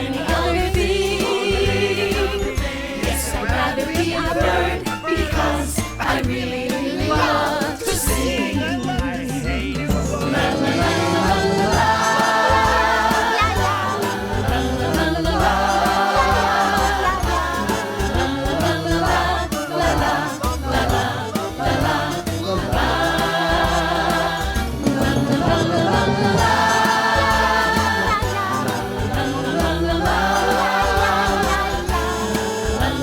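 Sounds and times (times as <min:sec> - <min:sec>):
cheerful song with bass line: 0:00.0 - 0:33.0
chorus of voices singing: 0:00.0 - 0:33.0.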